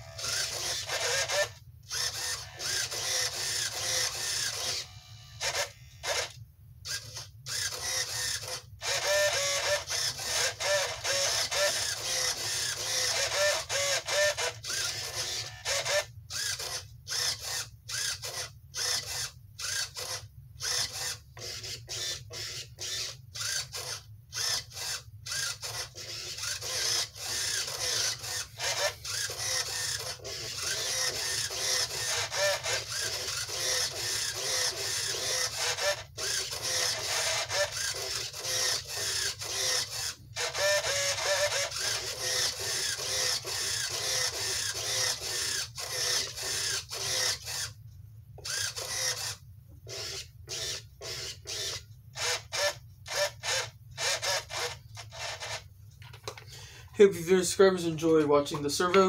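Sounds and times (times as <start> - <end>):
servos whirring: 0.0 - 47.8, 48.4 - 55.7.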